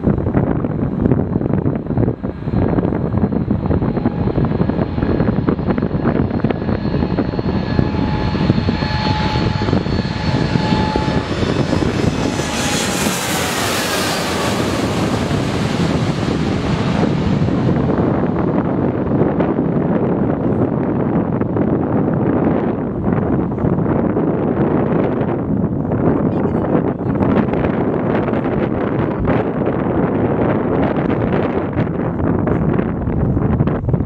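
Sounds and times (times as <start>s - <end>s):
jet taking off overhead: 0.0s - 34.0s.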